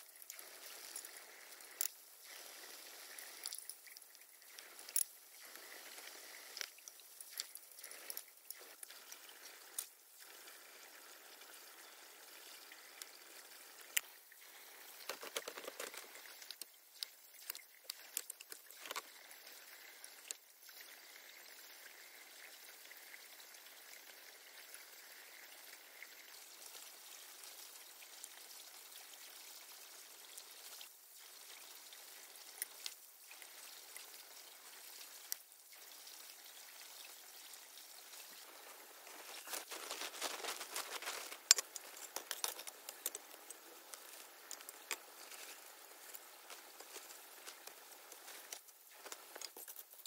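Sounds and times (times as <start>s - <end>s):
water trickling: 0.0s - 50.0s.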